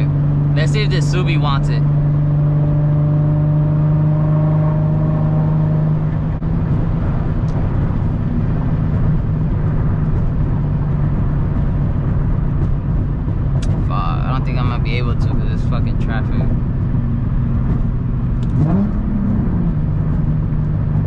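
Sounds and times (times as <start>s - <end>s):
car engine droning: 0.0s - 21.0s.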